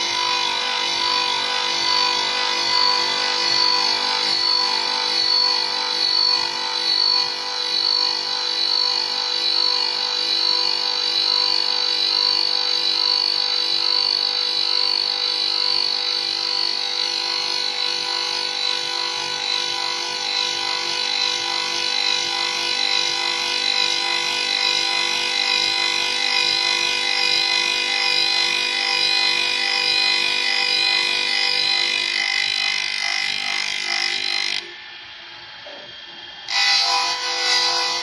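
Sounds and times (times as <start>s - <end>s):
machine motor whine: 0.0s - 38.0s.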